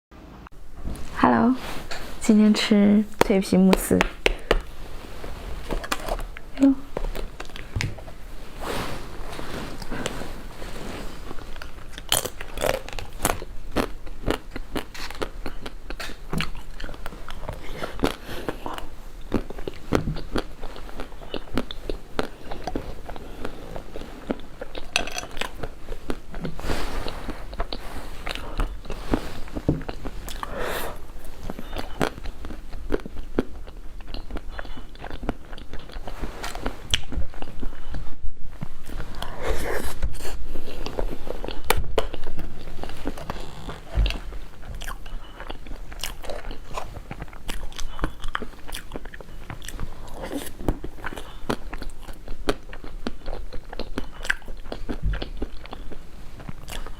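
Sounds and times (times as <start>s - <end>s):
chewing: 5.7s - 8.2s, 8.8s - 56.9s.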